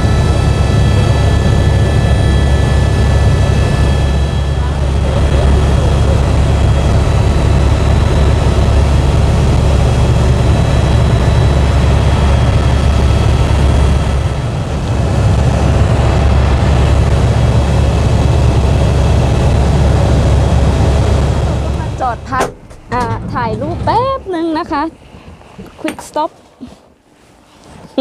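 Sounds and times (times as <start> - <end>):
helicopter low drone: 0.0 - 25.9
turbine whine: 0.0 - 27.7.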